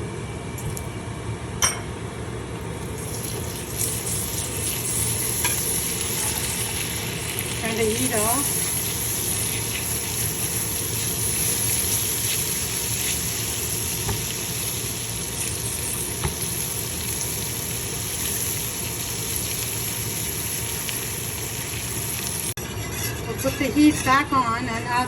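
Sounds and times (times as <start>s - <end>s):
butter and sugar sizzling in pan: 2.8s - 24.6s.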